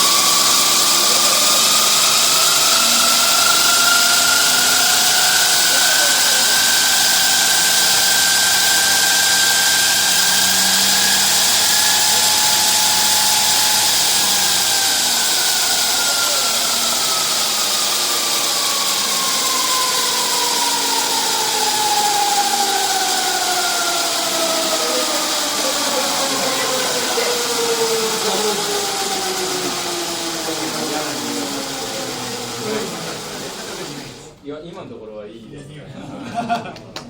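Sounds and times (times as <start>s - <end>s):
electric motorcycle motor whining: 0.0s - 34.4s.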